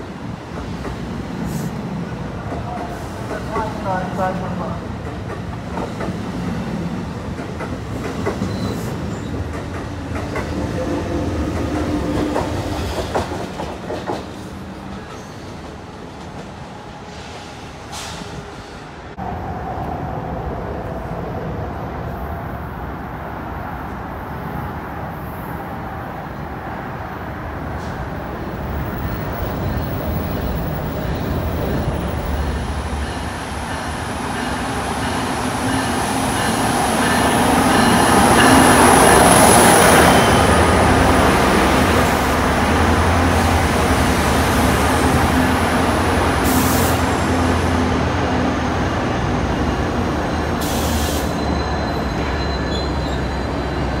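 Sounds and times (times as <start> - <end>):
diesel locomotive passing: 0.0 - 54.0
passenger coaches rumbling past: 0.0 - 54.0.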